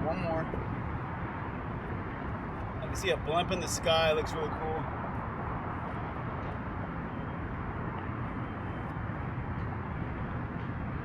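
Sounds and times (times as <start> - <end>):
outdoor background rumble and hiss: 0.0 - 11.0.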